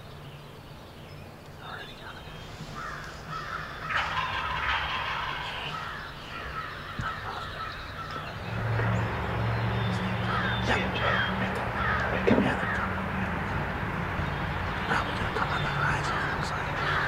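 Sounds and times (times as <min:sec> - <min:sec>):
birdsong: 0:00.0 - 0:17.0
steady low hum: 0:00.0 - 0:17.0
crows cawing: 0:02.7 - 0:17.0.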